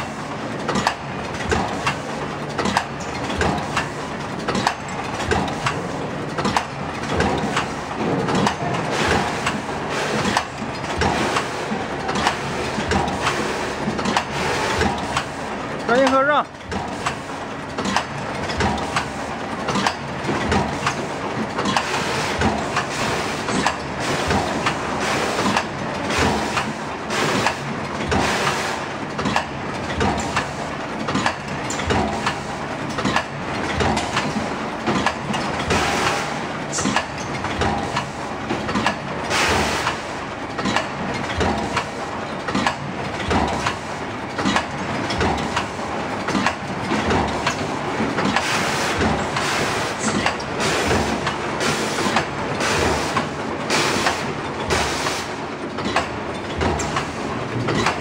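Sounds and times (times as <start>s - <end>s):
packing machine clattering: 0.3s - 58.0s.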